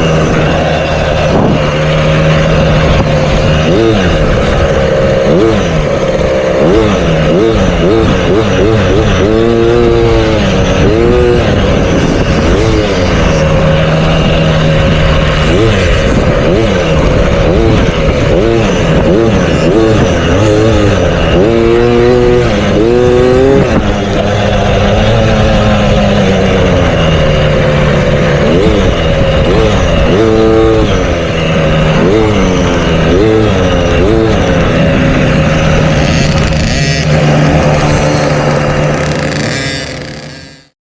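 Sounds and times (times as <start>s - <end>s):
motocross bike engine revving: 0.0s - 40.8s.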